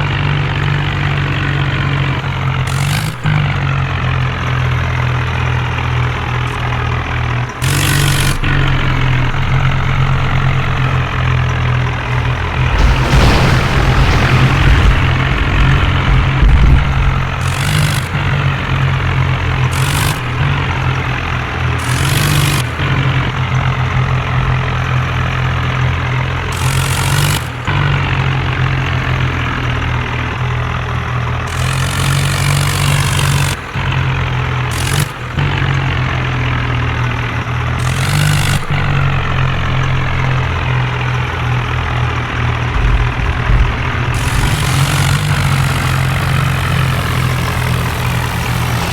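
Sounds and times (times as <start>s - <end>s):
heavy vehicle engine running: 0.0s - 48.9s.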